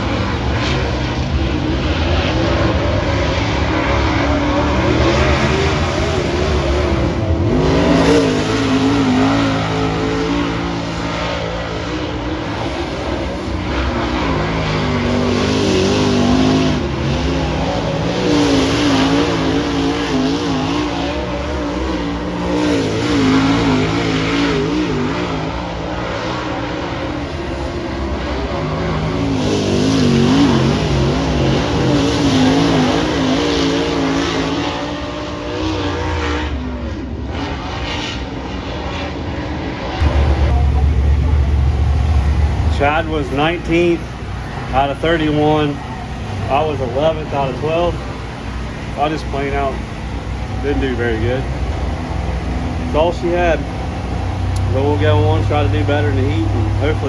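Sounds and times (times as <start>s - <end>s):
race car engines at speed: 0.0s - 57.0s.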